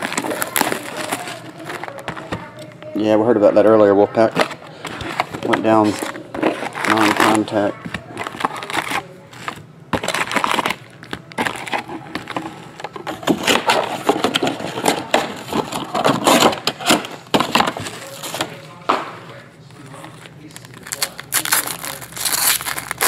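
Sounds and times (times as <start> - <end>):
foil packs crinkling: 0.0 - 2.6, 4.4 - 18.8, 19.8 - 23.0.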